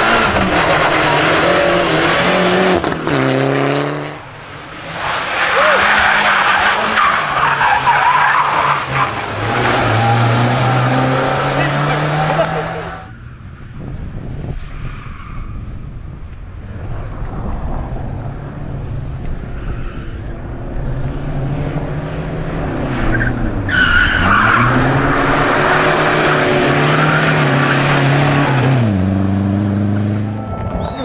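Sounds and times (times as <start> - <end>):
rally car engine revving: 0.0 - 13.3, 16.7 - 31.0
tyres skidding: 0.0 - 31.0.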